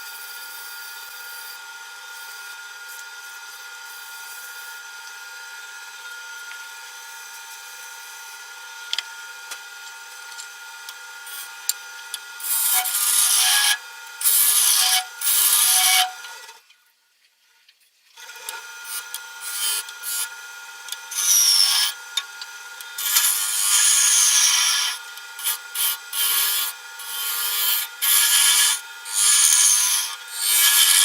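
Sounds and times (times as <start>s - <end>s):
tool cutting spinning wood: 0.0s - 16.6s, 18.2s - 31.0s
wood lathe motor humming: 0.2s - 16.5s, 18.2s - 31.0s.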